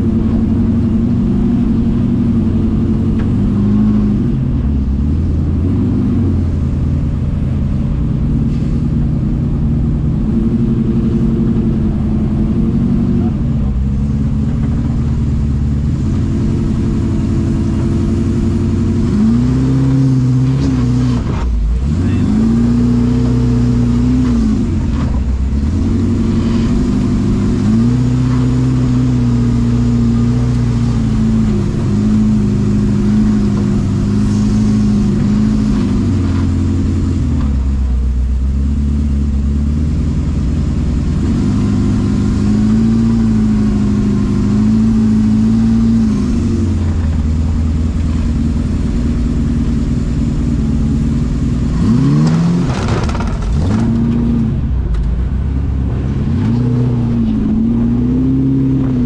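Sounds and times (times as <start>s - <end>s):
off-road buggy engine revving: 0.0s - 59.0s.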